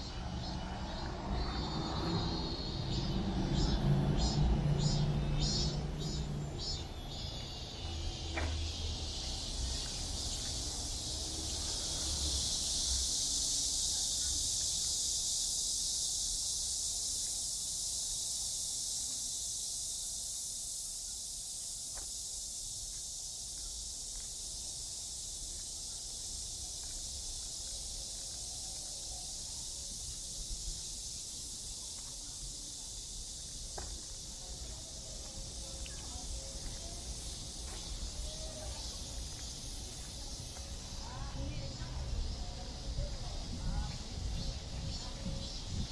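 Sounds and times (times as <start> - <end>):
cicadas droning: 0.0 - 45.9.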